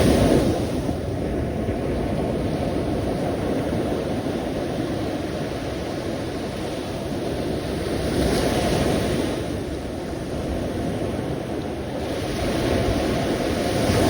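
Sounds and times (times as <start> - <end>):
ocean waves washing: 0.0 - 14.0.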